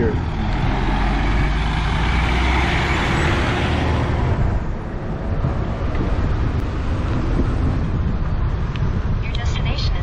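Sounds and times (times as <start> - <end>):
heavy truck passing: 0.0 - 9.6
wind rumble on microphone: 0.0 - 10.0.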